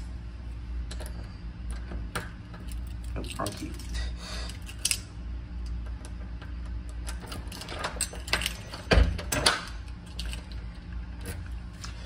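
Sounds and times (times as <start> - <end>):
elevator low hum: 0.0 - 12.0.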